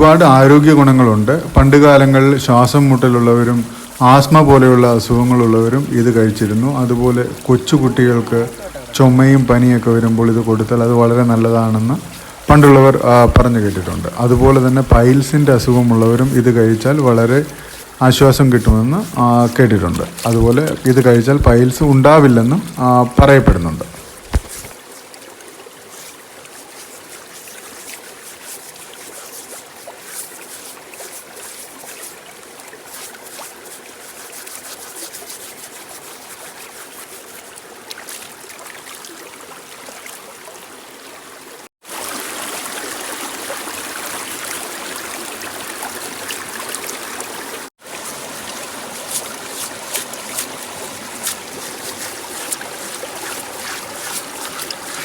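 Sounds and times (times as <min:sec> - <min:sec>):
water running and trickling: 0:00.0 - 0:55.0.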